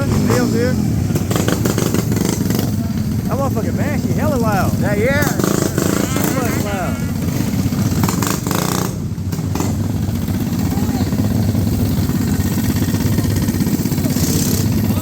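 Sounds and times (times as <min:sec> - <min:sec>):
minibike engine idling: 0:00.0 - 0:15.0.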